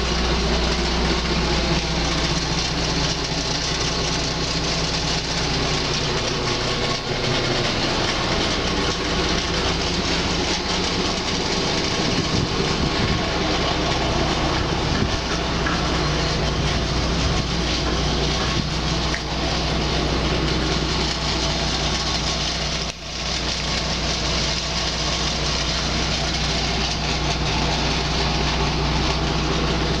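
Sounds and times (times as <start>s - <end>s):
diesel engines droning: 0.0s - 30.0s.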